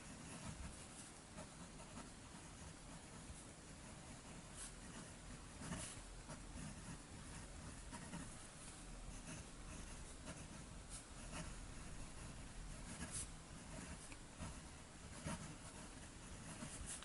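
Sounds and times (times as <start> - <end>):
fountain pen scratching paper: 0.0 - 17.0.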